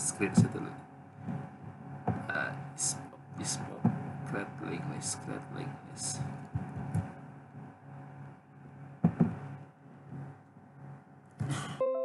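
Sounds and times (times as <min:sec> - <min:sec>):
steady electrical hum: 0:00.0 - 0:11.8.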